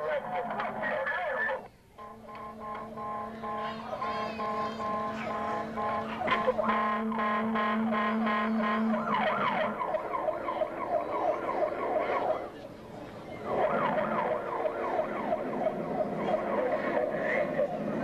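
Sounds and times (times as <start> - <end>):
siren yelping: 1.4 - 18.0.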